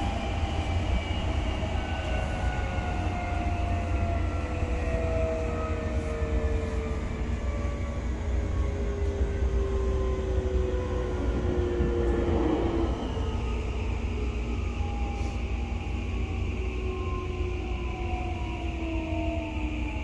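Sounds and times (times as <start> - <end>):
low train rumble: 0.0 - 20.0.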